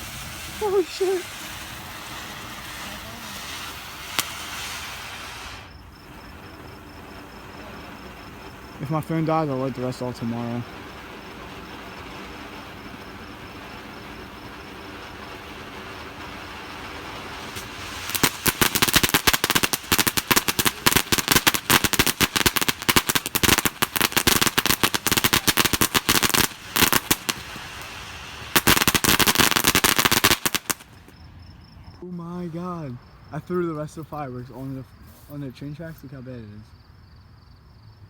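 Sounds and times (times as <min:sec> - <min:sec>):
fireworks crackling bangs: 0:00.0 - 0:31.2.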